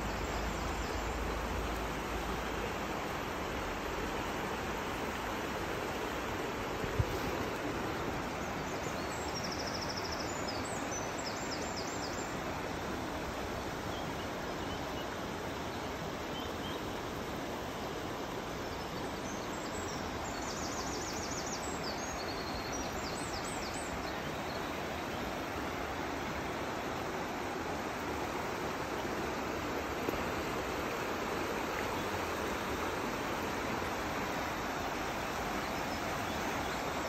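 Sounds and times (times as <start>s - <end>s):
river rushing over stones: 0.0s - 37.0s.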